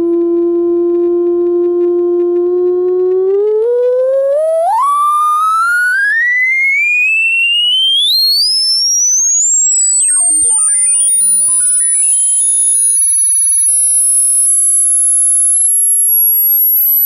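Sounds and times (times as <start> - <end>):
electronic test tone sweeping upward: 0.0 - 17.0.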